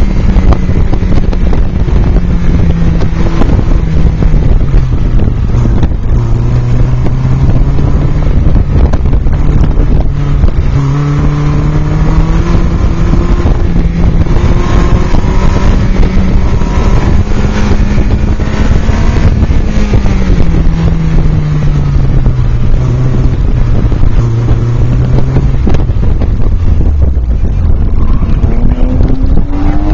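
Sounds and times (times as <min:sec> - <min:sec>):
car engine revving hard: 0:00.0 - 0:29.9
wind rushing over microphone: 0:00.0 - 0:29.9.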